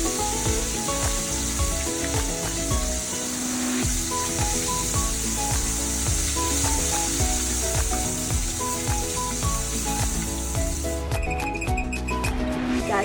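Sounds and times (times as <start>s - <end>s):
melodic music with bass line: 0.0s - 3.2s, 3.8s - 13.0s
shrimp sizzling in oil: 0.0s - 11.6s.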